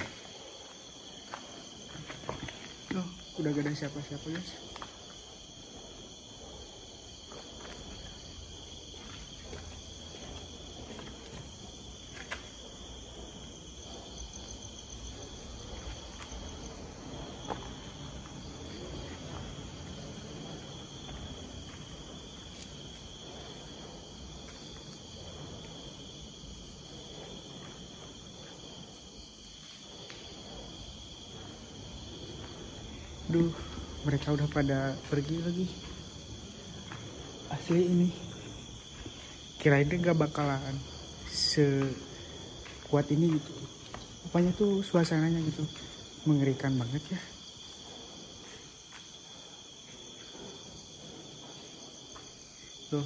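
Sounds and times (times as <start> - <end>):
crickets trilling: 0.0 - 53.0.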